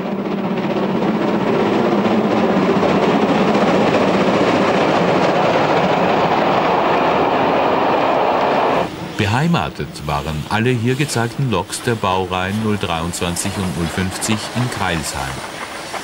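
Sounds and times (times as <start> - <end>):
steam train rushing past: 0.0 - 16.0.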